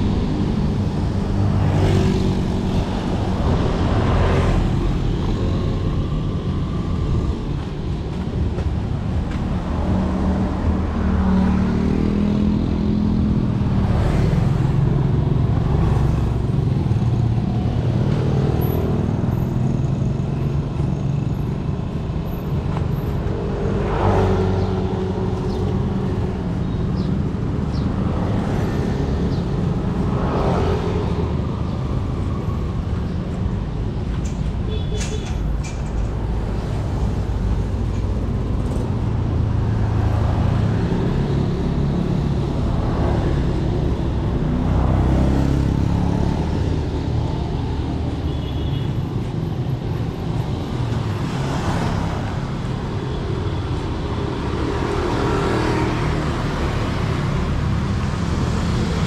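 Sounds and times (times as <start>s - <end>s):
cars and motorbikes passing: 0.0s - 59.0s
traffic rumble: 0.0s - 59.0s.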